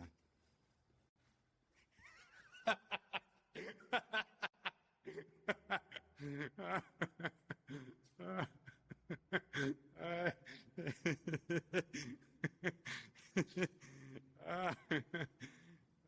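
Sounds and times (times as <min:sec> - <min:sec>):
person snickering and chuckling: 0:01.9 - 0:15.6.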